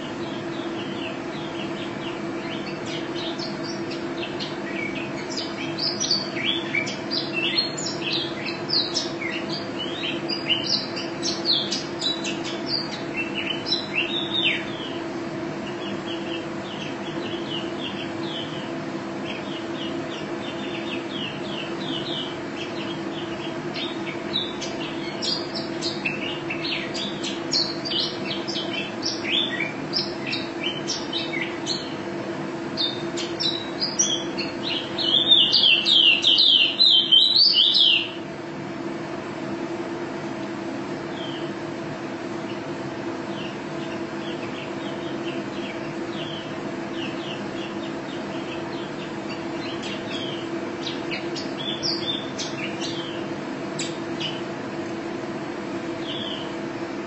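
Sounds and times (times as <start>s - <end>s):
bird twittering chirps and trills: 0.0s - 38.4s, 40.8s - 57.0s
steady low hum: 0.0s - 57.0s.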